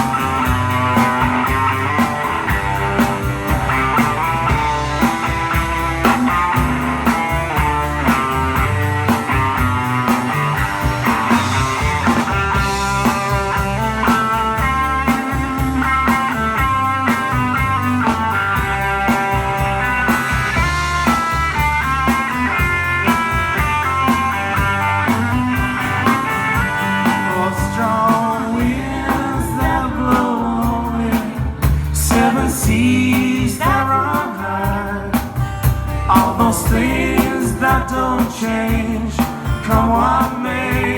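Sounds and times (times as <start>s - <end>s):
electric guitar lead: 0.0s - 40.9s
live country-rock band: 0.0s - 40.9s.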